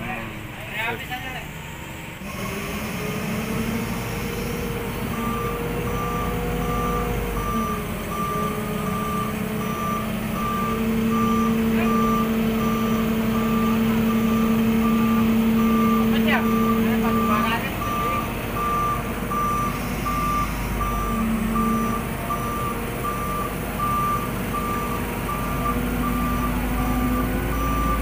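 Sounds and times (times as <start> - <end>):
diesel engine running: 0.0 - 28.0
warning beeper: 5.2 - 28.0.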